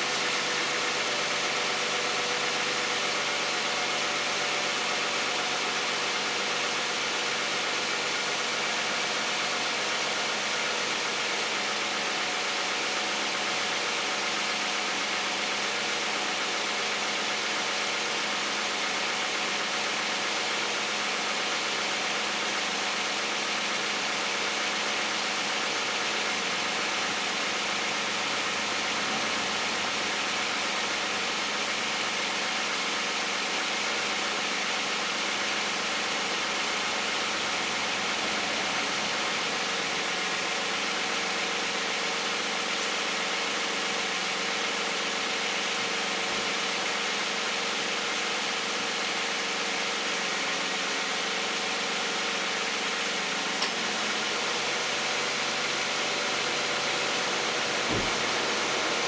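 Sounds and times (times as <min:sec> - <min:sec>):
car engine idling: 0:05.0 - 0:47.6, 0:52.5 - 0:59.0.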